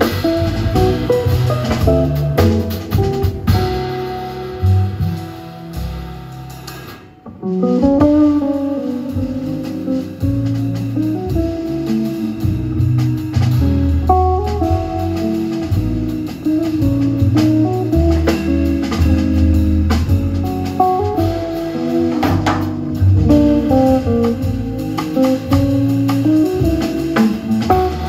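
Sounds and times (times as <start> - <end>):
jazz guitar melody: 0.0 - 28.0
light drums: 0.0 - 28.0
walking double bass: 0.0 - 28.0.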